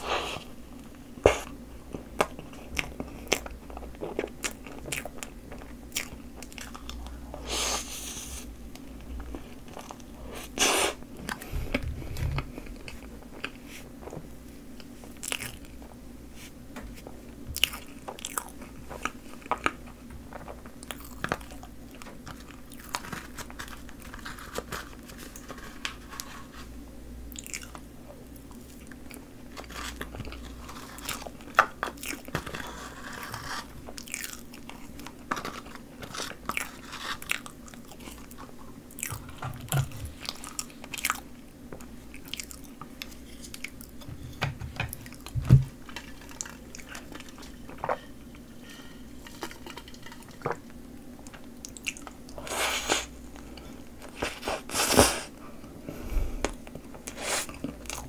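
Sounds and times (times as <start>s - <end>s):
person chewing: 1.2s - 15.8s, 17.6s - 26.5s, 27.3s - 39.4s, 40.0s - 41.3s, 42.1s - 44.0s, 45.0s - 55.3s.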